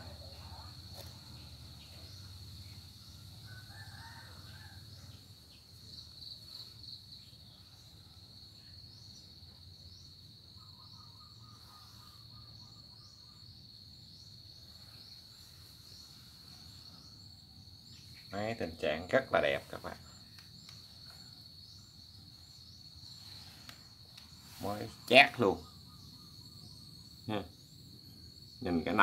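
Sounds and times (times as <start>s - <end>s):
insect trill: 0.0s - 29.0s.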